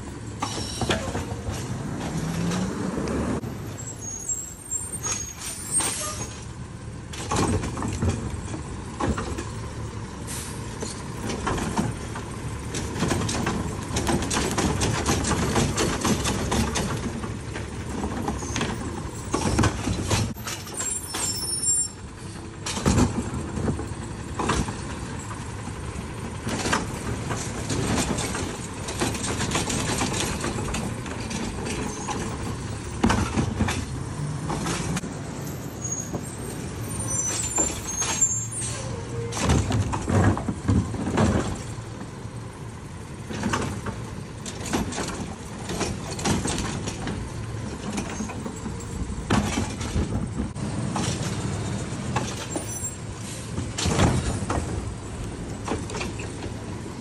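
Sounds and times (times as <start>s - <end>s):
bins and trash clanking: 0.0s - 57.0s
diesel engine running: 5.5s - 57.0s.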